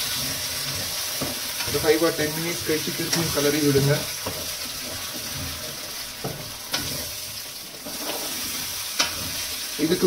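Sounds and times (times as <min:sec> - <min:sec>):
batter sizzling in oil: 0:00.0 - 0:10.0.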